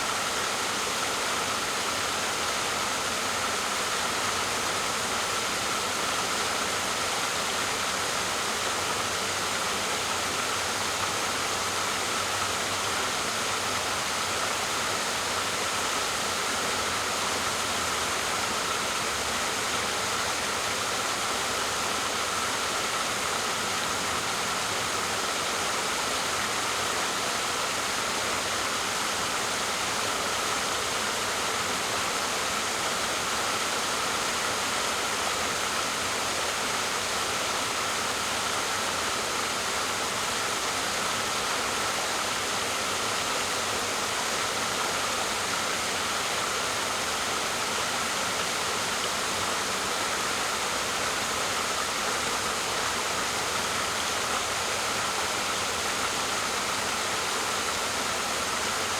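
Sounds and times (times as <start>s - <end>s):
waterfall splashing: 7.7s - 58.9s.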